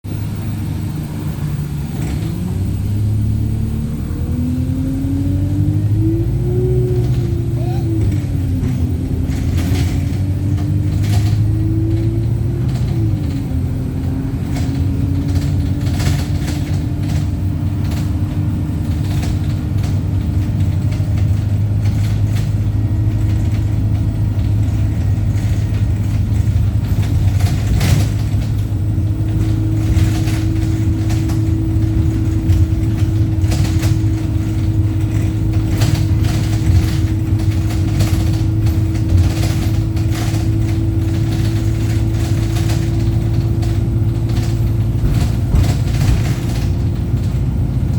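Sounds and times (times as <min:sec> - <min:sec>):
bus diesel engine drone: 0:00.0 - 0:47.9
knocks and rattles: 0:05.6 - 0:47.9.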